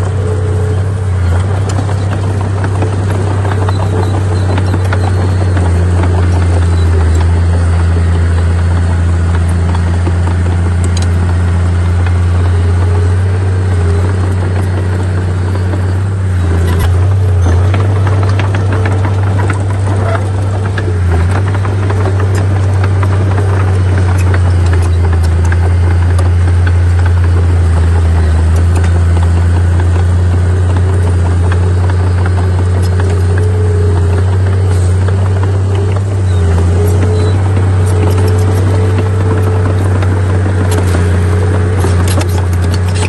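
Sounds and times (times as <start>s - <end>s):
heavy diesel engine running: 0.0s - 43.0s
small clicks and rattles: 0.0s - 43.0s.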